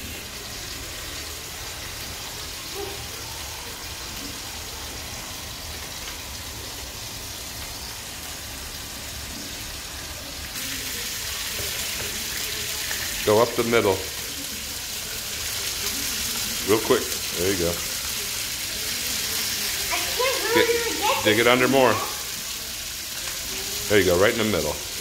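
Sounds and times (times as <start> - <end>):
steaks sizzling in a frying pan: 0.0 - 25.0.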